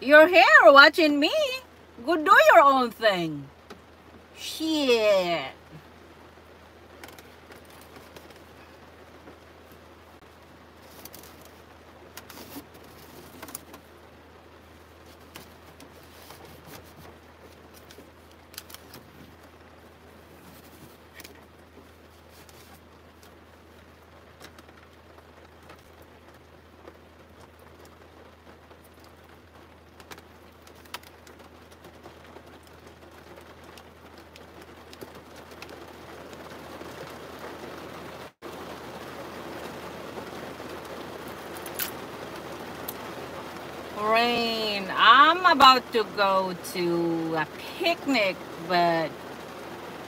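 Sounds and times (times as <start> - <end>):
rain on a car roof: 0.0 - 50.0.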